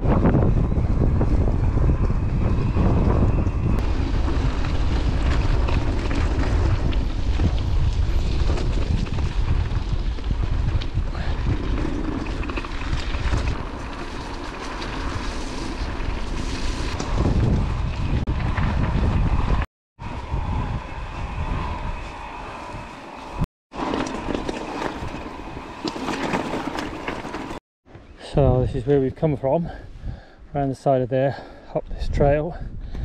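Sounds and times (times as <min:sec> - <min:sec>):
wind buffeting microphone: 0:00.0 - 0:23.5, 0:24.2 - 0:30.5, 0:31.3 - 0:33.0
bike rumbling over rough trail: 0:00.0 - 0:27.6.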